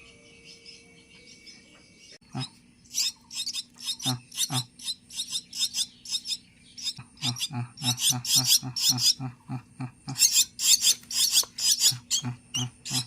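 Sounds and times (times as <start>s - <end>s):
baby birds chirping: 0.0s - 13.0s.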